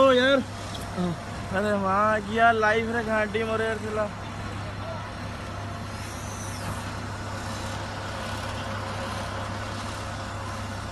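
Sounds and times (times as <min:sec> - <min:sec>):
faint high whine: 0:00.0 - 0:10.9
low engine drone: 0:00.0 - 0:10.9.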